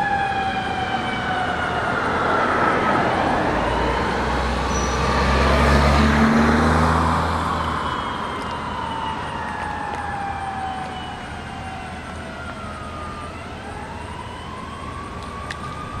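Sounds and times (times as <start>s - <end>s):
fire truck engine: 0.0s - 16.0s
fire truck siren wailing: 0.0s - 16.0s.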